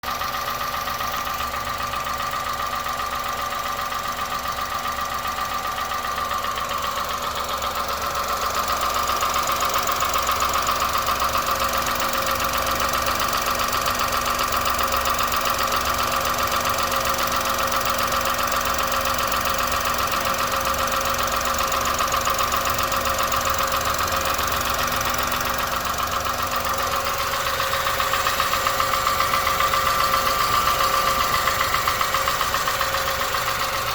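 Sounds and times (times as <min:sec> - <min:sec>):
car engine idling with tapping: 0:00.0 - 0:33.9.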